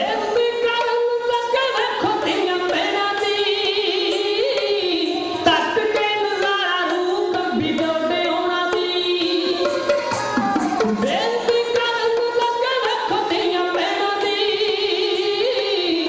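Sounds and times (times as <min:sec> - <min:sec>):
instrumental accompaniment: 0:00.0 - 0:16.0
person singing: 0:00.0 - 0:16.0.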